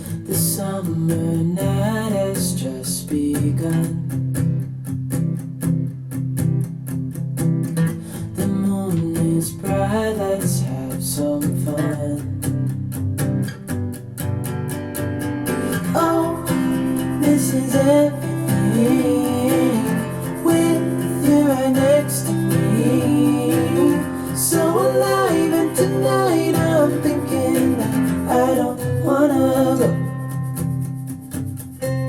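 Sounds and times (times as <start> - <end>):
guitar music over loudspeakers: 0.0 - 32.0.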